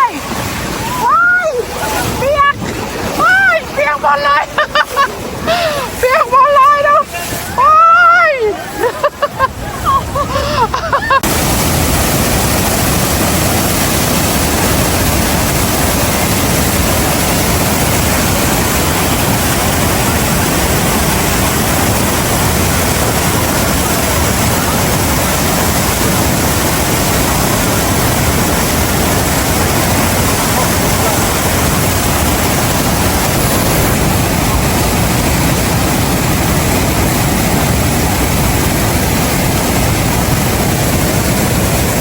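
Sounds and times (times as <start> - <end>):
waterfall roaring: 0.0 - 42.0.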